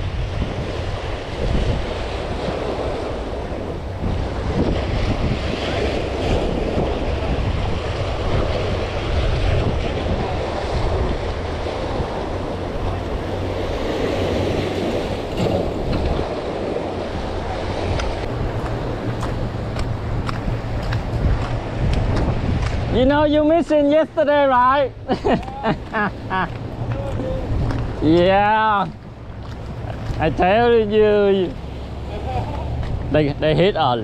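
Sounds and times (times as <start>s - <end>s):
sea waves washing against rocks: 0.0s - 34.0s
wind buffeting microphone: 0.0s - 34.0s.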